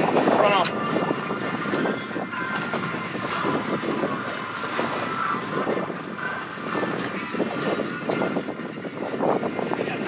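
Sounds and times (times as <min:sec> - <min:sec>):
low rumble: 0:00.0 - 0:09.8
water noise around boat: 0:00.0 - 0:10.0
wind: 0:00.0 - 0:10.0.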